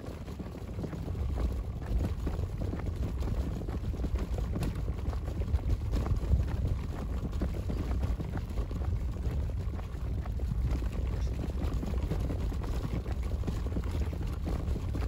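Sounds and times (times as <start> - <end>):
stroller wheels rolling on asphalt: 0.0 - 15.0.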